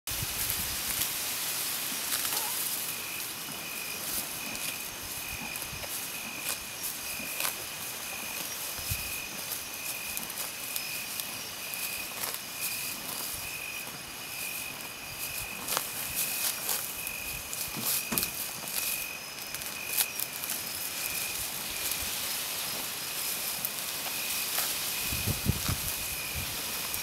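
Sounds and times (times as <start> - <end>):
night insects chirping: 0.1 - 27.0
animal cropping grass: 0.4 - 27.0.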